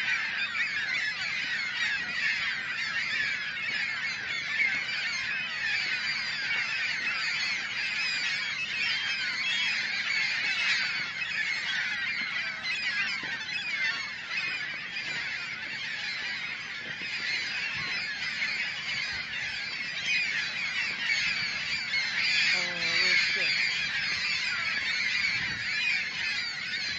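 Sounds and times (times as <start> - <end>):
flock of gulls calling: 0.0 - 26.9.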